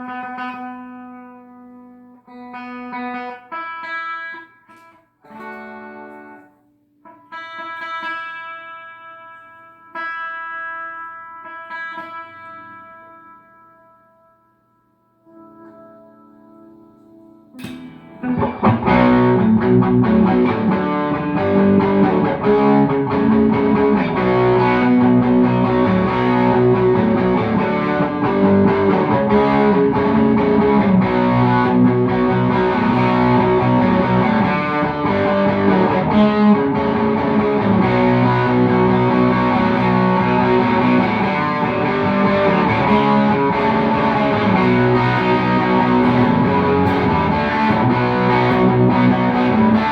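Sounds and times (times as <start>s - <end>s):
distorted electric guitar: 0.0s - 14.5s, 15.2s - 49.9s.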